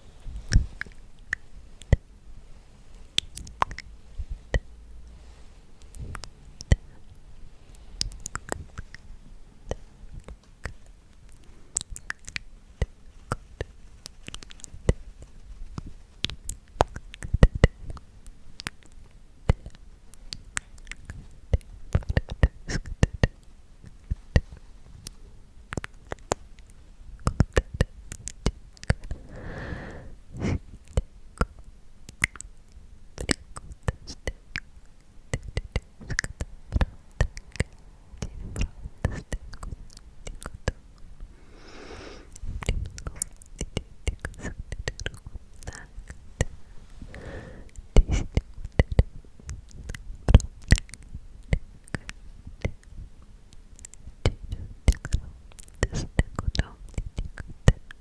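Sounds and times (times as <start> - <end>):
wet mouth clicks and smacks: 0.4 - 2.1, 2.9 - 3.9, 5.8 - 7.2, 7.8 - 9.1, 9.7 - 29.2, 30.4 - 41.1, 42.3 - 46.6, 47.7 - 58.0.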